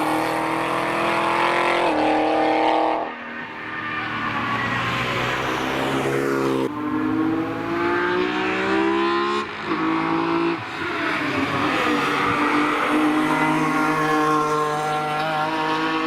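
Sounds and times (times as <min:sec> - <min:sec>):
car engine accelerating hard: 0:00.0 - 0:03.2, 0:04.0 - 0:16.0.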